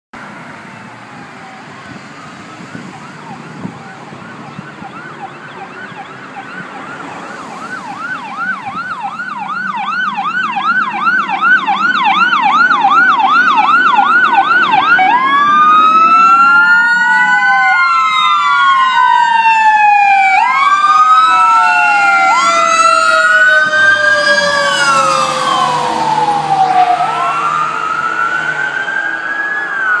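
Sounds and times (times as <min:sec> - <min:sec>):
fire engine sirens yelping and wailing: 0:00.2 - 0:30.0
truck engines rumbling: 0:00.2 - 0:30.0.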